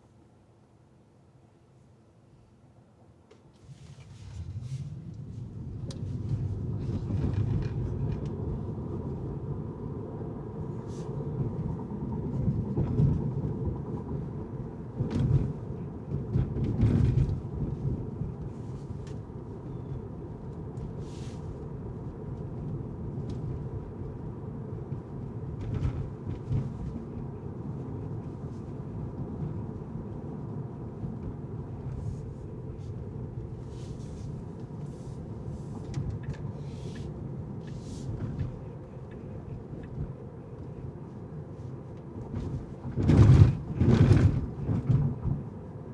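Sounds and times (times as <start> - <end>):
car tyres and engine rumble: 3.5 - 45.9.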